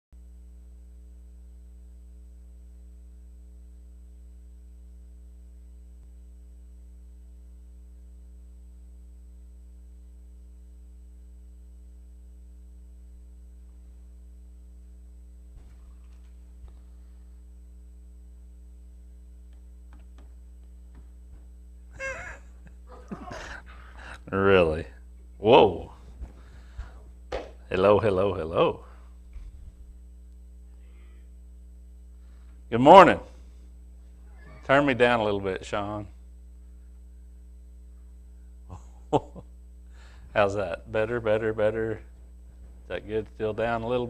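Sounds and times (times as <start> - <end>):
electrical mains hum: 0.2 - 44.0.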